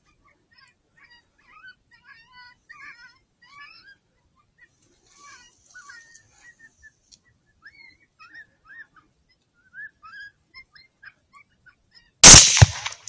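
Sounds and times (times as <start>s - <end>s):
high whimpering yelps: 0.2s - 6.6s, 7.6s - 12.4s.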